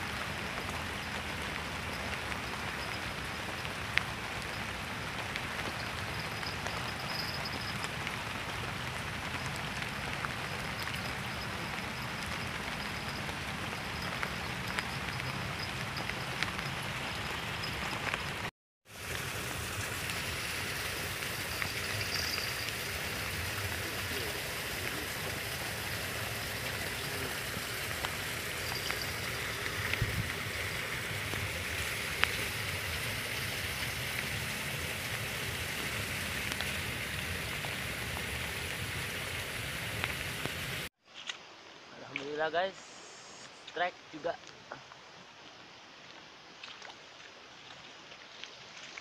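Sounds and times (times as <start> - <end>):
rain falling: 0.0 - 42.6.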